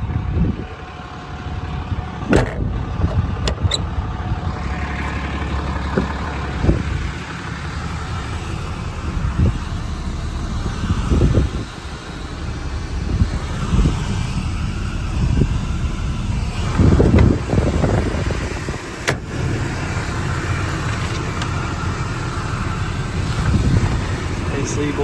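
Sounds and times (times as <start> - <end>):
truck engine low rumble: 0.0 - 25.0.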